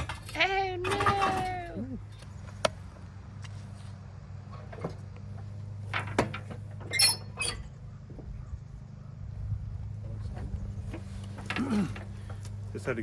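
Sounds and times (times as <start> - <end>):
steady low hum: 1.8 - 13.0.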